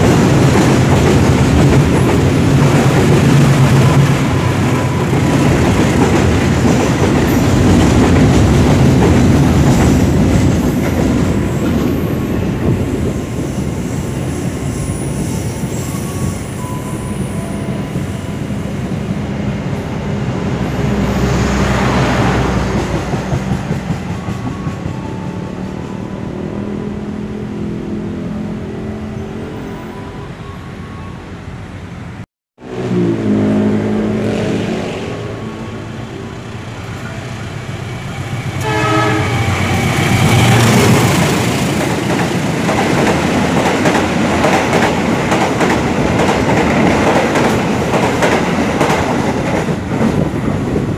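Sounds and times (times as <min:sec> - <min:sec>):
trains rumbling over rails: 0:00.0 - 0:50.9.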